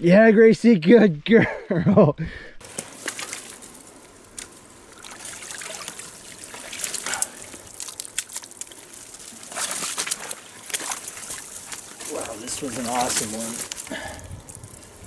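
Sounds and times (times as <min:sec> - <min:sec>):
water splashes: 0:02.6 - 0:15.0
water trickling and sloshing: 0:02.6 - 0:15.0.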